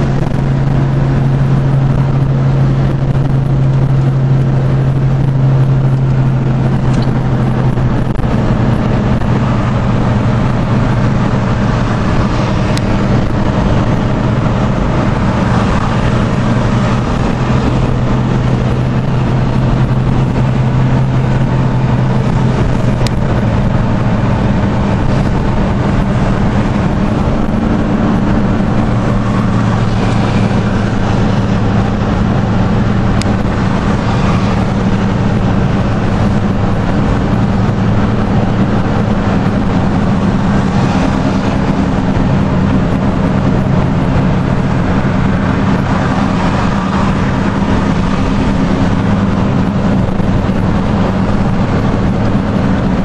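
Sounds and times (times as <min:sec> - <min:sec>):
low engine drone: 0:00.0 - 0:53.0
road and tyre noise: 0:00.0 - 0:53.0.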